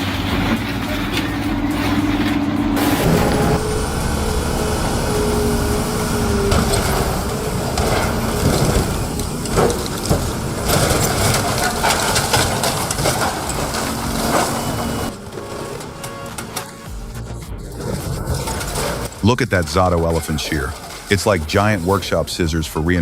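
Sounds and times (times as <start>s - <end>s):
grinding and crunching: 0.0s - 23.0s
machine drone: 0.0s - 23.0s.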